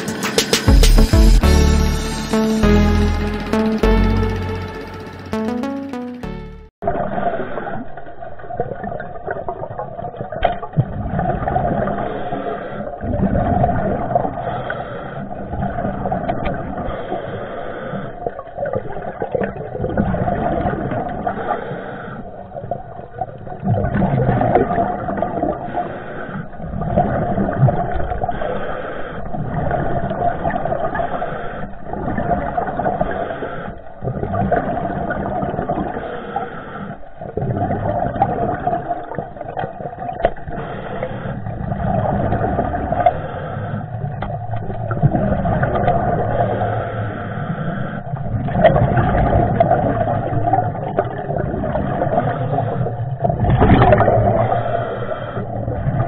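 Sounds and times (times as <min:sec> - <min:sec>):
muffled underwater water rushing: 0:06.8 - 0:56.0.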